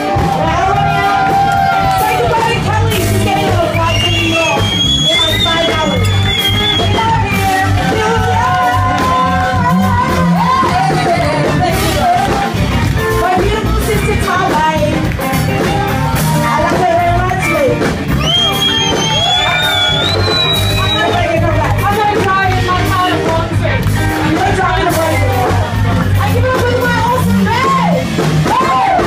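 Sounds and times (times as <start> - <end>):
bass and drum beat: 0.0 - 29.0
women singing: 0.3 - 6.2, 6.8 - 17.8, 20.8 - 29.0.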